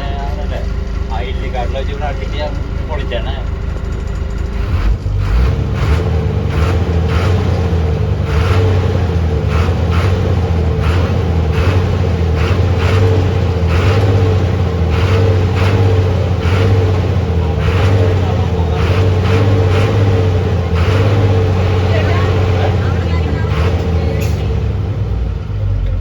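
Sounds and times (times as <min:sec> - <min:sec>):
vehicle engine droning: 0:00.0 - 0:26.0.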